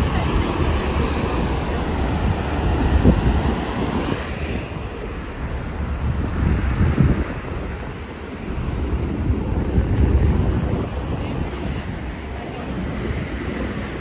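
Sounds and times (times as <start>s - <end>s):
churning boat wake rushing: 0.0s - 14.0s
wind buffeting microphone: 0.0s - 14.0s.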